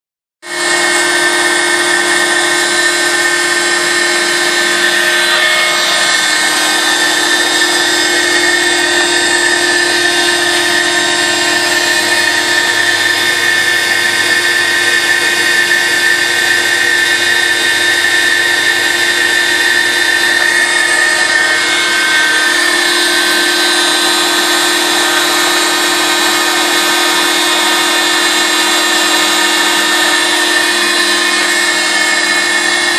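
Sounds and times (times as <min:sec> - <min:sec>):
router cutting plastic sheets: 0:00.4 - 0:32.9.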